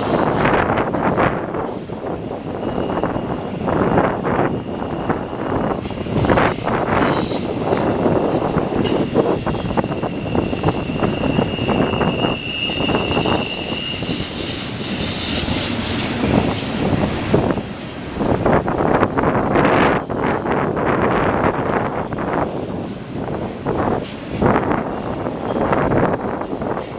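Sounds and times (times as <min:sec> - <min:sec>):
rumble of train cars: 0:00.0 - 0:26.9
train wheels squealing on rails: 0:00.0 - 0:26.9
wind buffeting microphone: 0:00.0 - 0:26.9.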